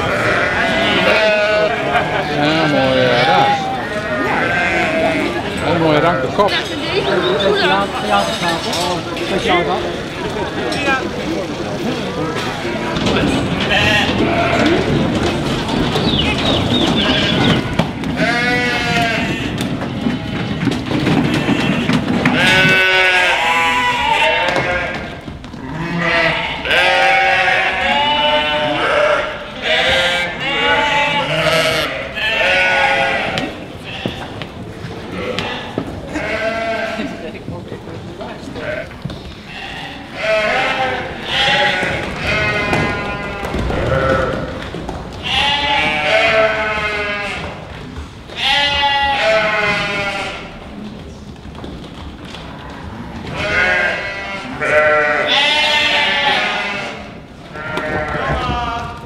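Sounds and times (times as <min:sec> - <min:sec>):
flock of sheep bleating: 0:00.0 - 0:08.5, 0:12.3 - 0:15.0, 0:16.2 - 0:20.5, 0:21.1 - 0:34.3, 0:35.1 - 0:37.2, 0:38.5 - 0:44.6, 0:45.2 - 0:47.7, 0:48.3 - 0:50.6, 0:53.3 - 0:59.0.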